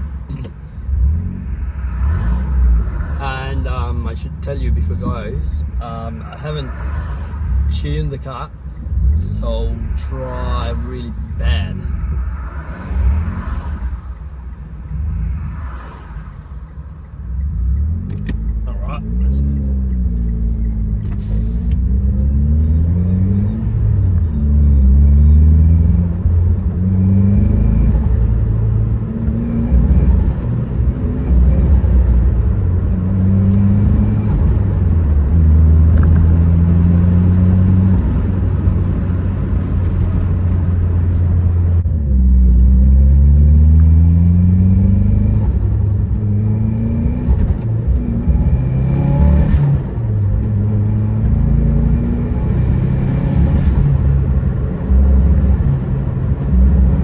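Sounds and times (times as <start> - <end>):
turbocharged car engine revving: 0.0 - 57.0.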